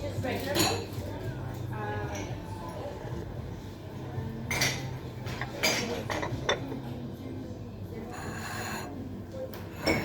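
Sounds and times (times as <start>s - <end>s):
faint murmur of voices: 0.0s - 10.0s.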